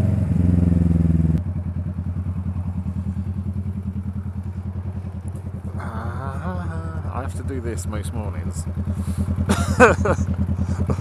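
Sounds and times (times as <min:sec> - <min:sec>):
motorcycle engine revving and idling: 0:00.0 - 0:11.0.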